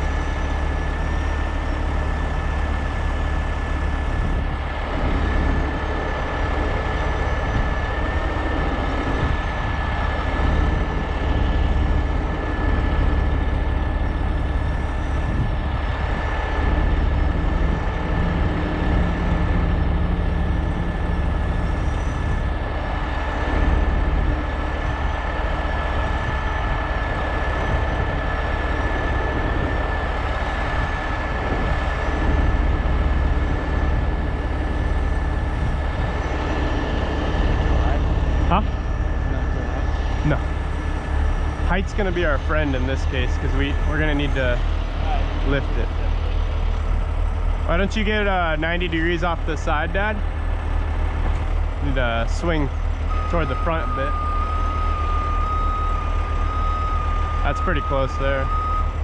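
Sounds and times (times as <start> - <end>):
diesel truck engine running: 0.0 - 59.0
high whine: 0.0 - 59.0.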